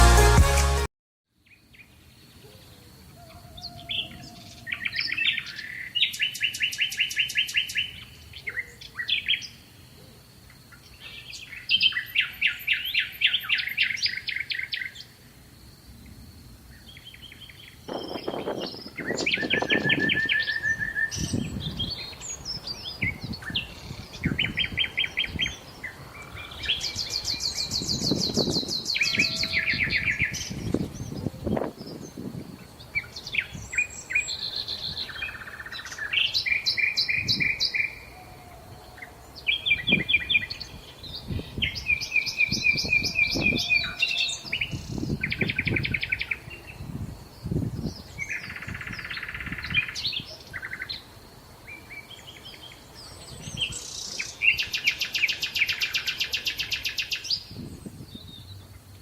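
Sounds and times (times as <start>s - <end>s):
songbirds trilling and twittering: 1.4s - 59.0s.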